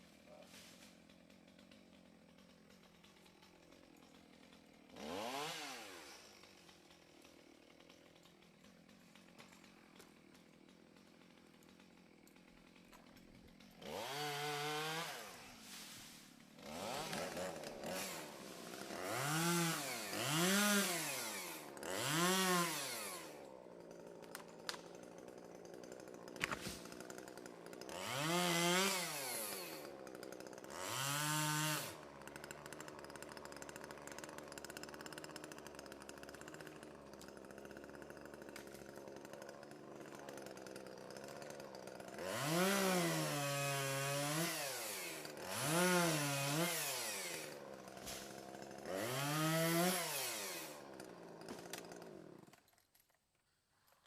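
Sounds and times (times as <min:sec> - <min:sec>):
chainsaw idling: 0:00.0 - 0:53.2
chainsaw engine revving: 0:01.0 - 0:15.8, 0:16.4 - 0:52.7.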